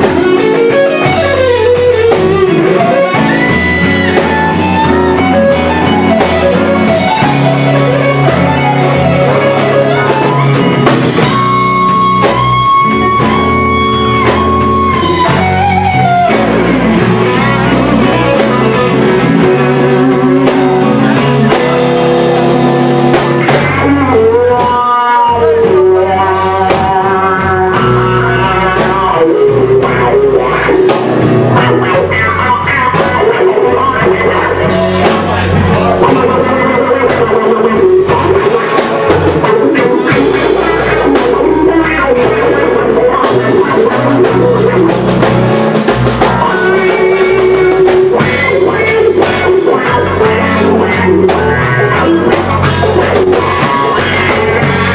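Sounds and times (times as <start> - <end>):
drums: 0.0 - 54.9
electric guitar bending notes: 0.0 - 54.9.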